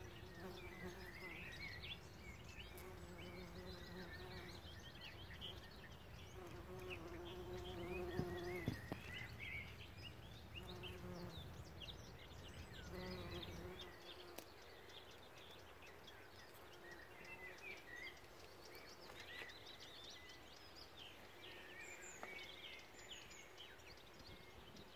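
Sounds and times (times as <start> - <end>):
birds singing: 0.0 - 24.9.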